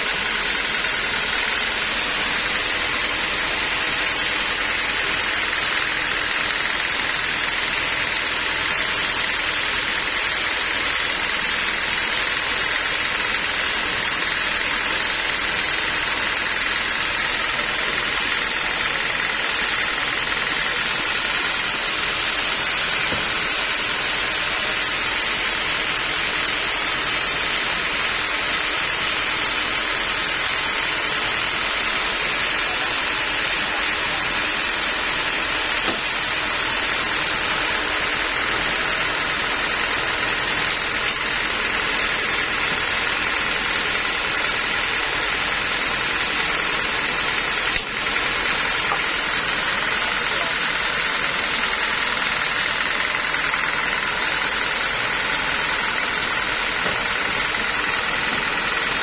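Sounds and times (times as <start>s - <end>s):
sawmill mechanical whir: 0.0s - 59.0s.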